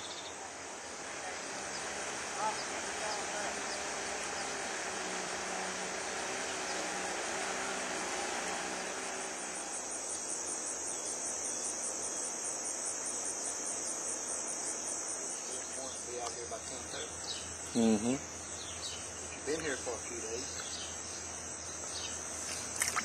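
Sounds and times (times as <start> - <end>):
outboard motor hum: 0.0 - 12.0, 15.1 - 23.0
insects chirring: 0.0 - 23.0.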